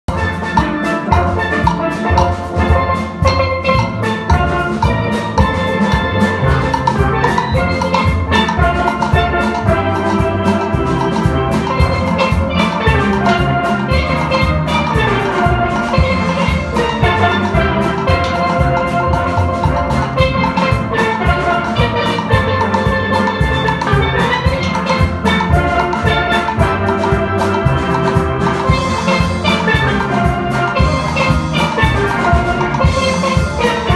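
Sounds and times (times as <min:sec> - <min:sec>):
steady drum beat: 0:00.0 - 0:33.9
steel pan melody: 0:00.1 - 0:33.9.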